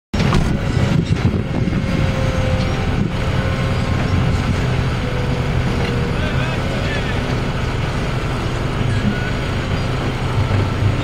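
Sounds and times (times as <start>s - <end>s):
excavator diesel engine rumbling: 0.2s - 11.0s.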